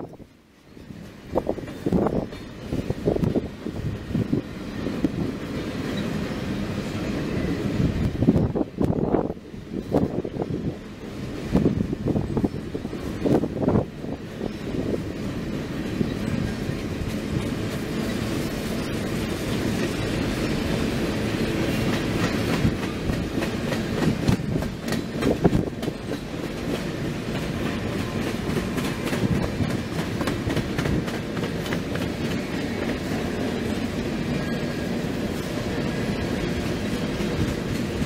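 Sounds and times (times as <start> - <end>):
train cars clanking: 0.0 - 38.0
freight train wheels clattering: 0.8 - 9.0, 11.5 - 38.0.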